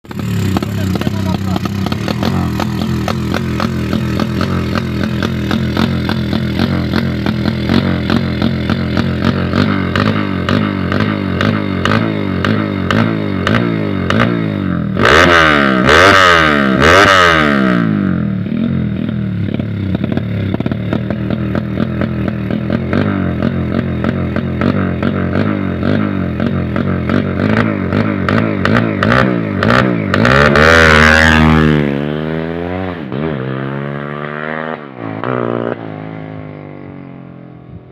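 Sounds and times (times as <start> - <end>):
motorcycle engine revving and idling: 0.0 - 37.9.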